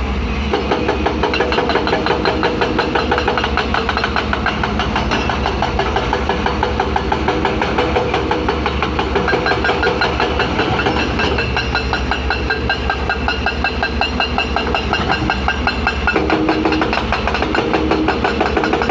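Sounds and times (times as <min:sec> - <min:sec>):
excavator diesel engine running: 0:00.0 - 0:18.9
hydraulic breaker hammering: 0:00.5 - 0:18.9.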